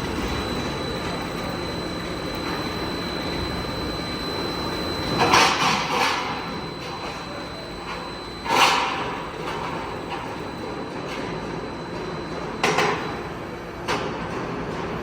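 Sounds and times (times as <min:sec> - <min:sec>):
high whine: 0:00.0 - 0:13.8
roll forming machine running: 0:00.0 - 0:15.0.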